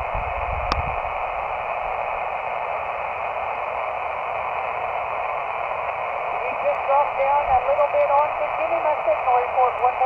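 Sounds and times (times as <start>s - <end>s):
radio band noise hiss: 0.0s - 10.0s.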